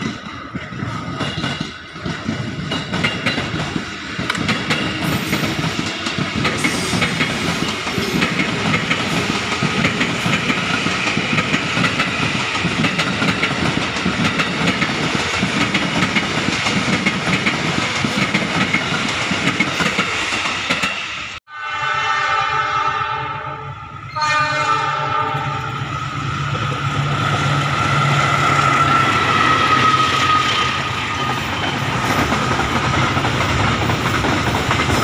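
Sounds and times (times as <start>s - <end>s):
train wheels clacking over joints: 0.0s - 21.0s, 26.5s - 35.0s
train rushing noise: 0.0s - 35.0s.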